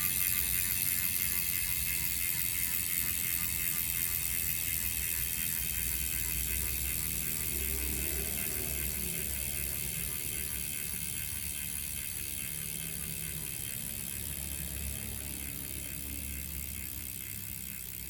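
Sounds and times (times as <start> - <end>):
bicycle freehub clicking: 0.0 - 18.0.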